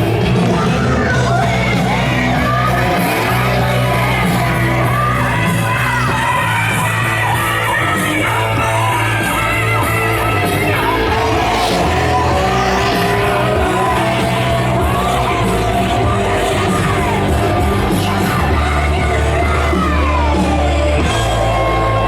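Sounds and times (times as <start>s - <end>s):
loud rock music: 0.0s - 22.0s
voices yelling and shouting: 0.0s - 22.0s.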